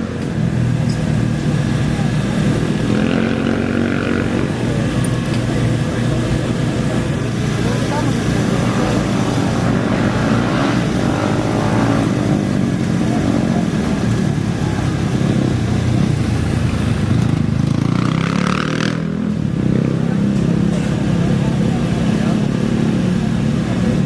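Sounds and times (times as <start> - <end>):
off-road motorcycle engines racing: 0.0 - 24.0.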